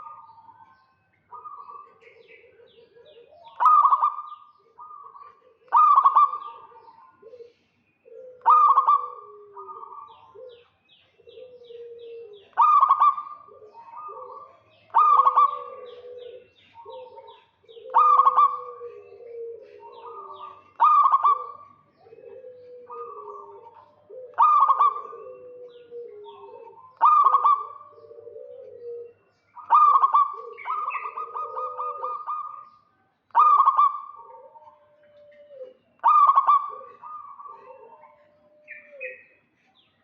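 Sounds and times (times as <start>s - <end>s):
doves cooing loud call: 0.0s - 39.9s.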